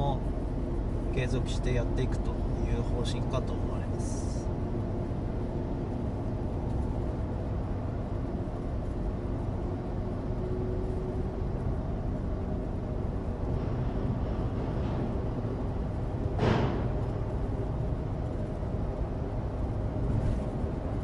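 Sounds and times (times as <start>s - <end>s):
road and tyre rumble: 0.0s - 21.0s.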